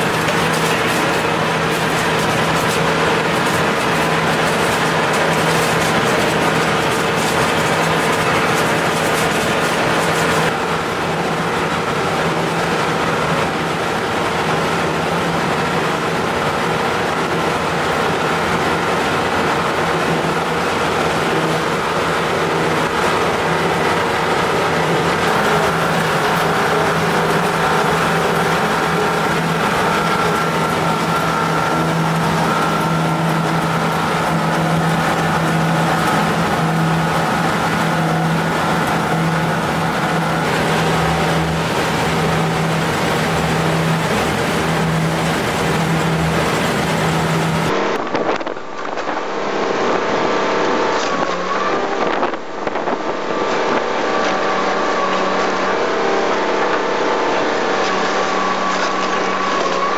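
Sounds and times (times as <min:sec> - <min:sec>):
conveyor machinery humming: 0:00.0 - 0:59.9.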